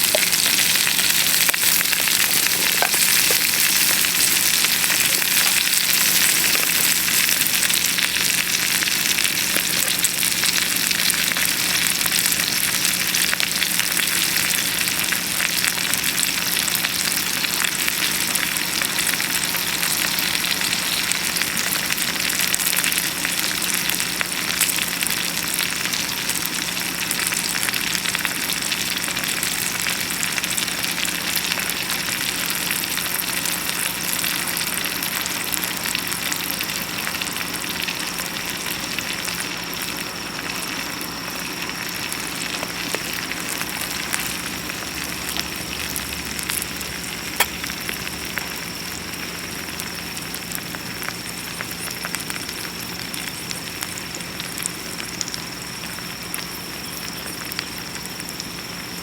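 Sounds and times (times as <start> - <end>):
bacon and eggs sizzling: 0.0 - 59.0
faint steady hum: 0.0 - 59.0.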